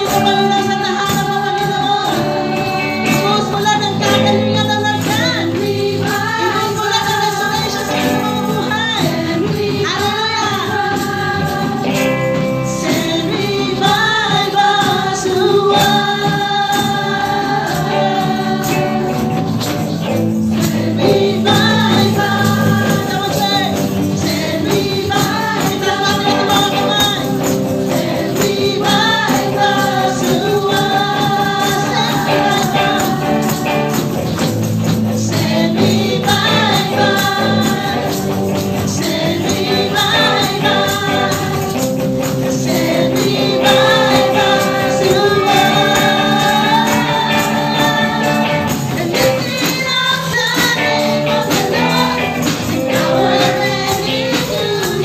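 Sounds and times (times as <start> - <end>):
amplified band with electric guitar: 0.0 - 55.0
tambourine shaking: 0.0 - 55.0
women singing gospel song: 0.0 - 55.0.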